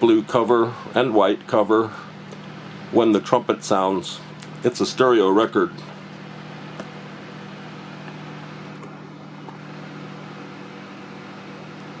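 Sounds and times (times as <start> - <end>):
machine humming with steady hiss: 0.0 - 12.0.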